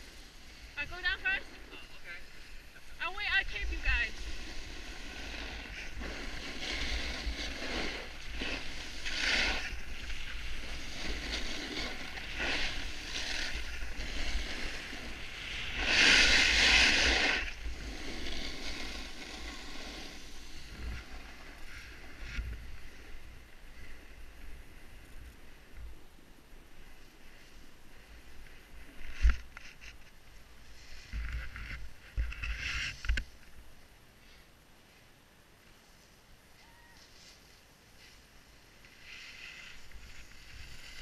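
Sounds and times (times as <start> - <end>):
skis scraping over snow: 0.0 - 26.0, 26.6 - 33.4, 35.8 - 41.0.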